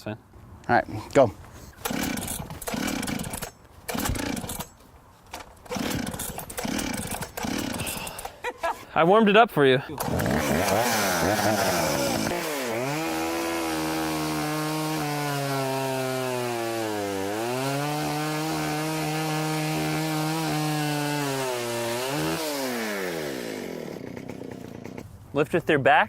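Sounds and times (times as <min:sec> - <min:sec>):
chainsaw cutting wood: 0:01.7 - 0:08.4, 0:10.0 - 0:25.1.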